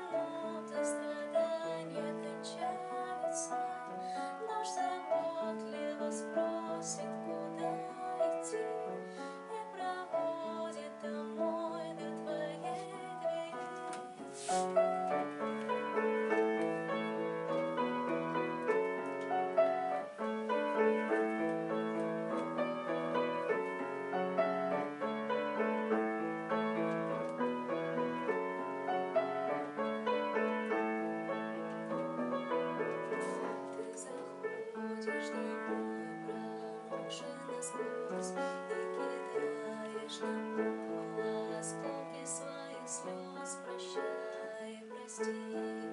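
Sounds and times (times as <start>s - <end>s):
grand piano playing: 0.0s - 45.9s.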